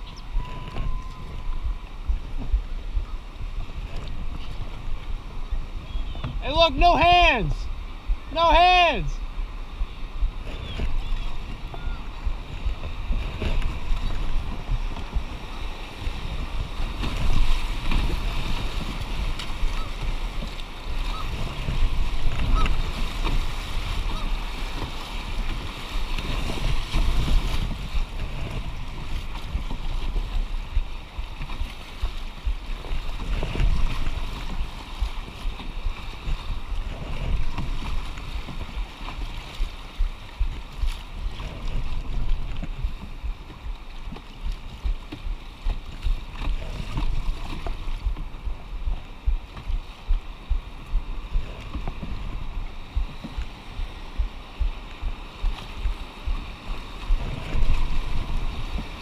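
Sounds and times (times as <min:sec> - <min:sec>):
whitewater rushing and splashing: 0:00.0 - 0:59.0
wind buffeting microphone: 0:00.0 - 0:59.0.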